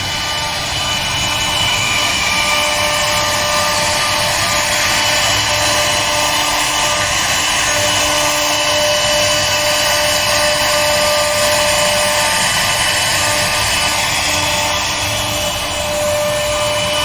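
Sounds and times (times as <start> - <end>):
router cutting wood: 0.0 - 17.0
router spindle whine: 0.0 - 17.0.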